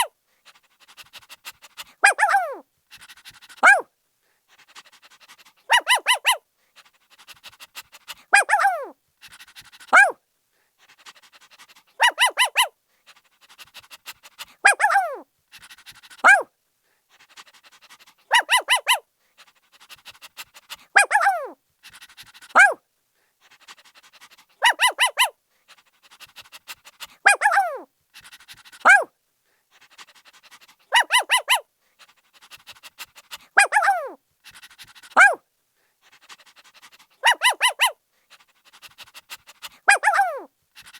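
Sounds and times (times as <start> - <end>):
puppy barking and yelping: 0.0 - 3.9, 4.7 - 6.4, 7.2 - 10.2, 11.2 - 16.5, 17.6 - 22.8, 23.7 - 29.1, 29.7 - 35.4, 36.0 - 40.9.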